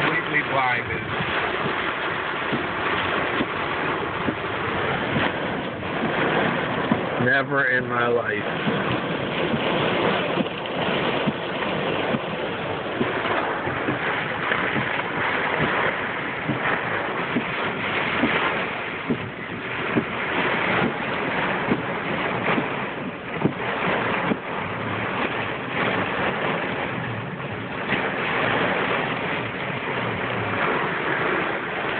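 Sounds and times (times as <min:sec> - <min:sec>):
hail and rain on car roof: 0:00.0 - 0:31.9.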